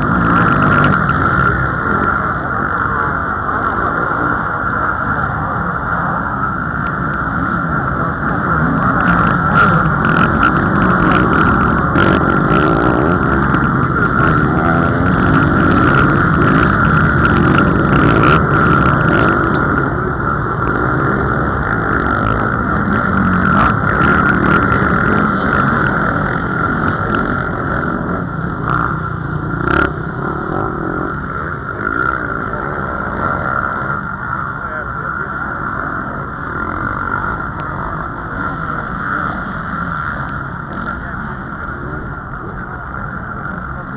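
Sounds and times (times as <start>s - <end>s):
motocross bikes revving past: 0.0s - 43.9s.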